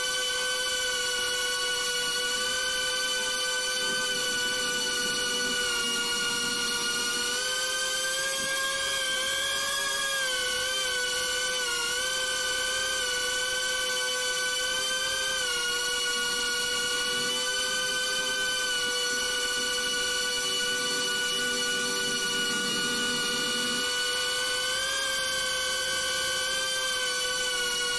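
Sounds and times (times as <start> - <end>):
drone motors whining: 0.0 - 27.9.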